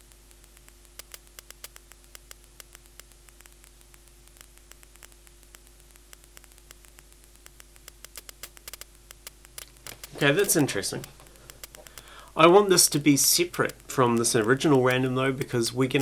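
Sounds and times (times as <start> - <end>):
synthesized random clicks: 0.0 - 16.0.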